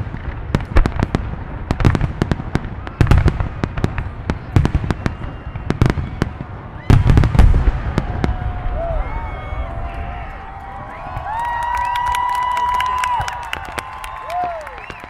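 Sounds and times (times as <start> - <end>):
fireworks cracks and booms: 0.0 - 15.0.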